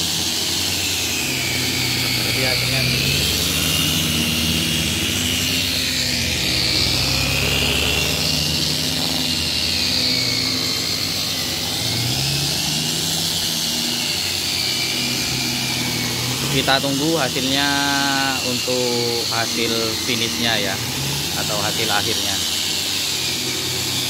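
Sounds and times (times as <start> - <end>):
electric polishers whining on glass: 0.0 - 24.0.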